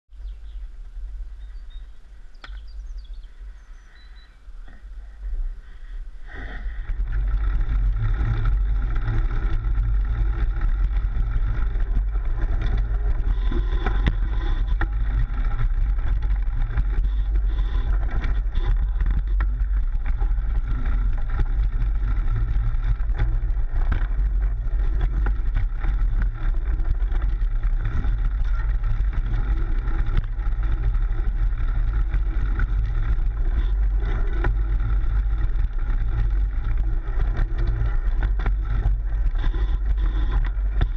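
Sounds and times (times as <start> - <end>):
bike ride vibration: 0.1 - 40.9
wind rumble: 0.1 - 40.9.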